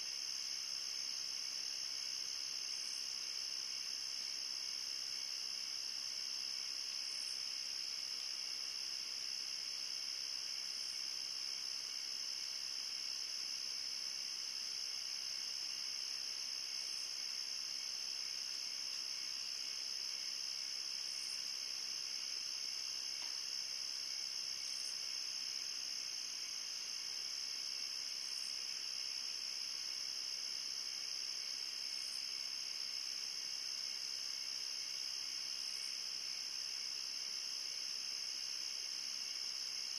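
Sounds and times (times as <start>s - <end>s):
high insect chirp: 0.0s - 39.9s.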